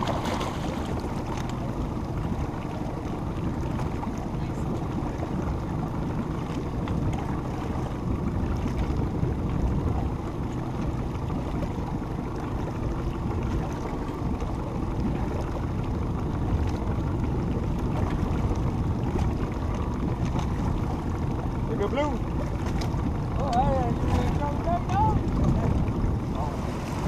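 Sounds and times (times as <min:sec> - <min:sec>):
water lapping at boat hull: 0:00.0 - 0:27.0
wind rumble on microphone: 0:00.0 - 0:27.0.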